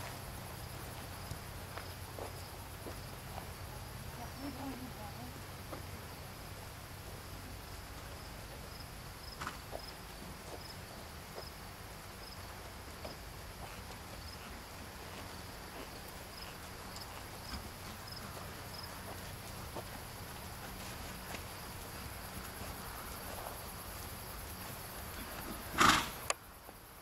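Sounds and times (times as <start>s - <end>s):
horse hooves trotting on gravel: 0.0s - 6.2s, 7.0s - 26.8s
insect chirping: 0.0s - 27.0s.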